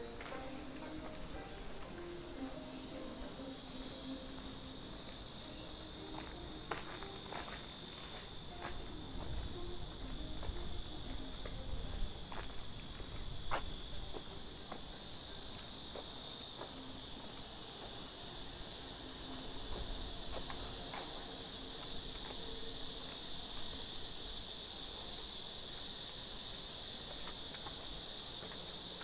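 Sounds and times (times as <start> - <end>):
shrill insect chorus: 0.0 - 29.0.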